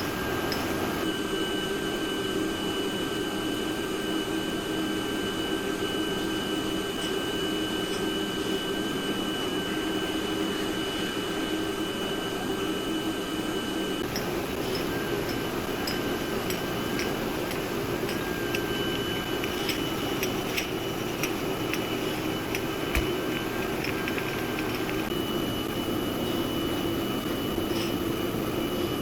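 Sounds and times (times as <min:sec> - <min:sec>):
production-line machinery running: 0:00.0 - 0:29.0
thin high whine: 0:00.0 - 0:29.0.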